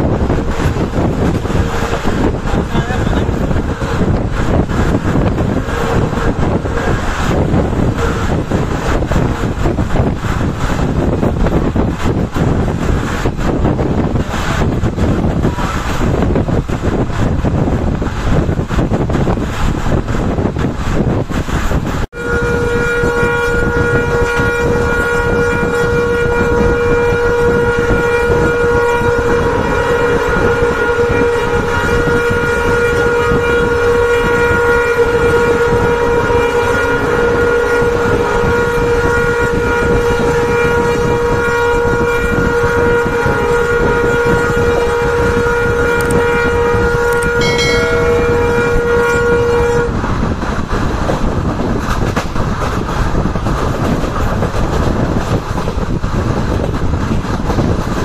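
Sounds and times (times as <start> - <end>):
locomotive horn blast: 0.0 - 18.4, 21.8 - 51.6
moving train rumble: 0.0 - 58.0.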